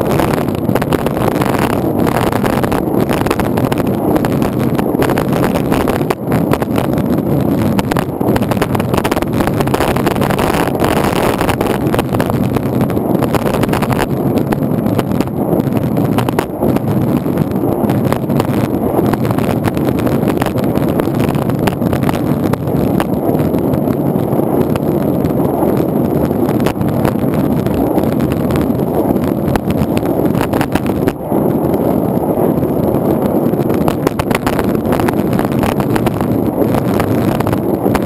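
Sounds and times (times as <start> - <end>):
longboard wheels rolling on asphalt: 0.0 - 38.0.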